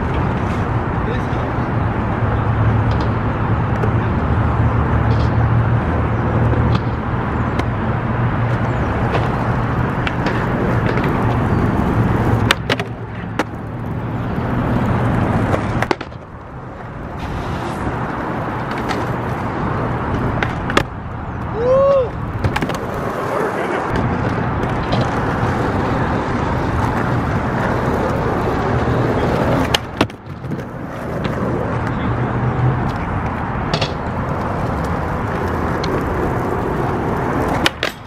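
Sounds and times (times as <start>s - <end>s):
skateboard clacking on ground: 0.0s - 4.2s, 4.9s - 32.2s, 32.8s - 38.0s
skateboard wheels rolling on concrete: 0.0s - 38.0s.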